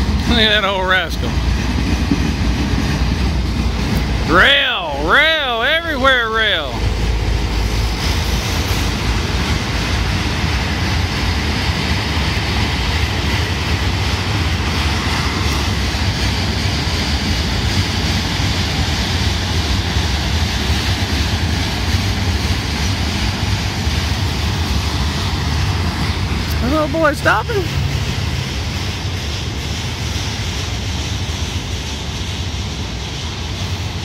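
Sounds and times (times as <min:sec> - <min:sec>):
steel train wheels rumbling on track: 0:00.0 - 0:34.0.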